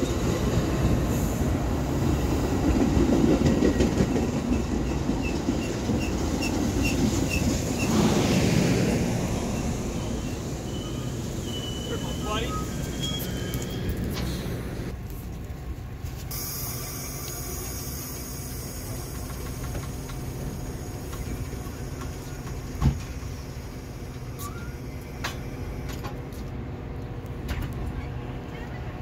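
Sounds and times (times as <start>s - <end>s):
train engine rumbling: 0.0s - 29.0s.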